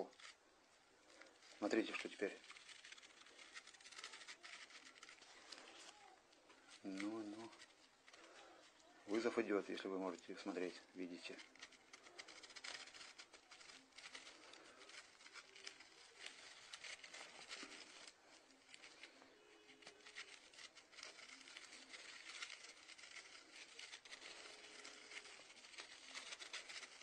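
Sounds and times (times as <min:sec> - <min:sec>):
faint hiss and crackle: 0:00.0 - 0:27.0.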